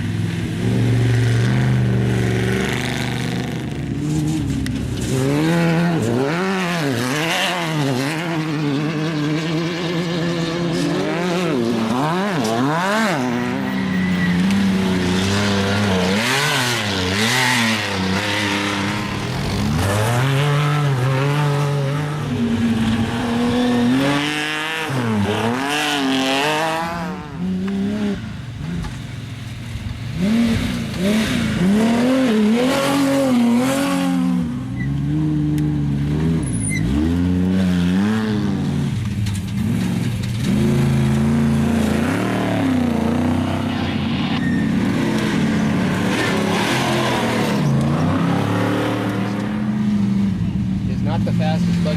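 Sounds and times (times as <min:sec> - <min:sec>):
race car engines revving past: 0:00.0 - 0:51.9.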